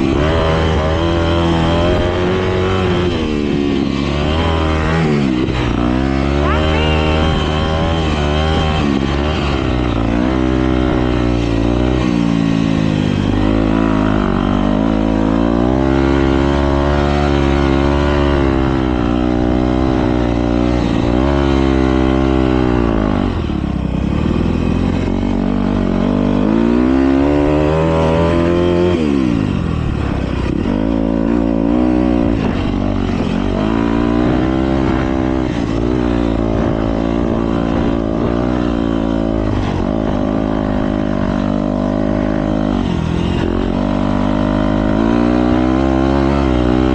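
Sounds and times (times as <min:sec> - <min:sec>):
motocross bikes revving: 0:00.0 - 0:46.9.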